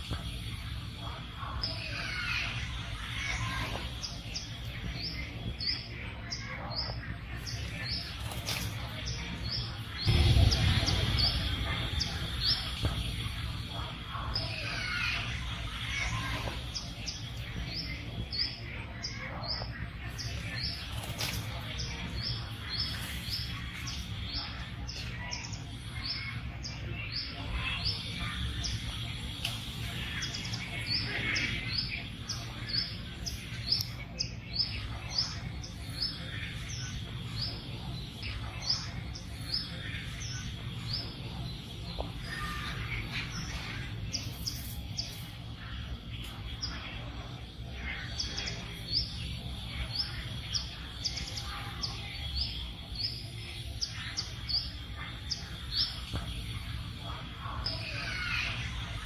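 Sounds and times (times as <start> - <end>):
bird chirping: 0.0 - 59.0
steady low hum: 0.0 - 59.0.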